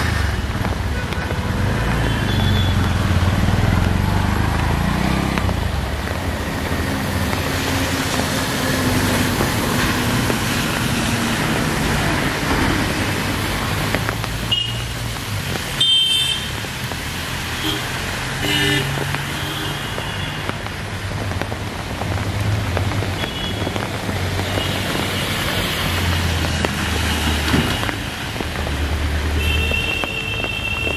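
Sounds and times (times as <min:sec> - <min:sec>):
rain falling: 0:00.0 - 0:30.9
traffic engine hum: 0:00.0 - 0:30.9.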